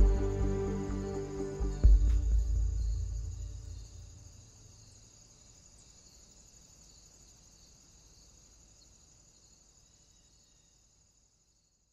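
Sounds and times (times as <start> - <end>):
insect chorus: 0.0 - 11.9.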